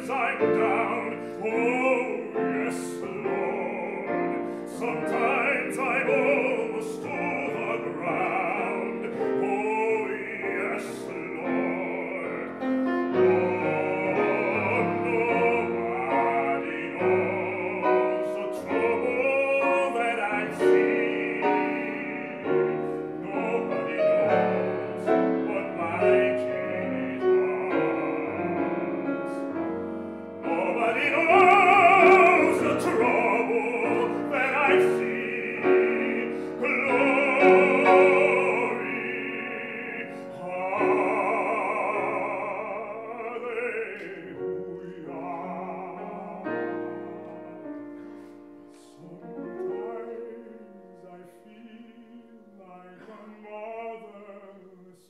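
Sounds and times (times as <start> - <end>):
grand piano: 0.0 - 55.0
man singing opera: 0.0 - 55.0.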